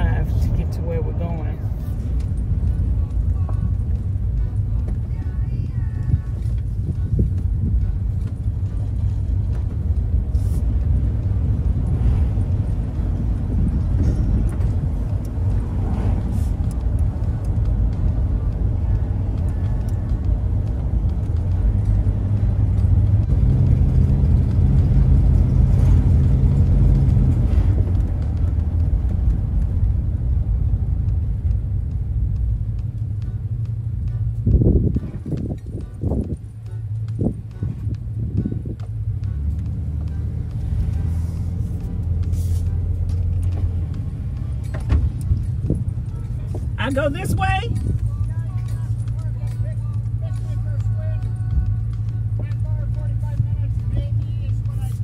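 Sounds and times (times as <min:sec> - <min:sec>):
engine and road noise drone: 0:00.0 - 0:55.0.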